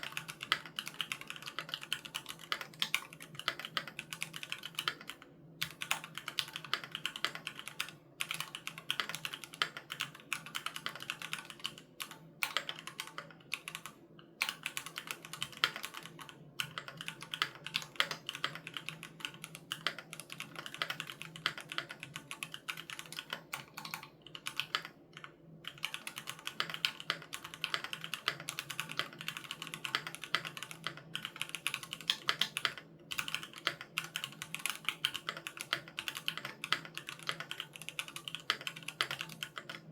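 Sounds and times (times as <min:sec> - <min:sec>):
mechanical keyboard clacking: 0:00.0 - 0:11.8, 0:12.4 - 0:39.9.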